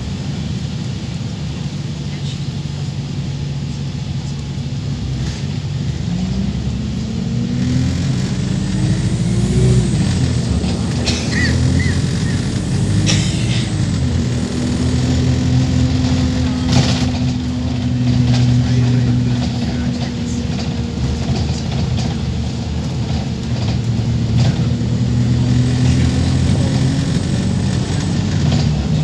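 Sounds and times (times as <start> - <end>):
bus engine pulling away: 0.0 - 29.0.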